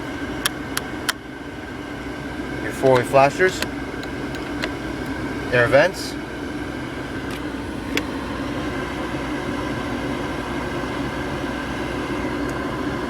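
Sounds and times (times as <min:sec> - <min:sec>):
car engine idling: 0:00.0 - 0:13.0
ventilation fan blowing: 0:00.0 - 0:13.0.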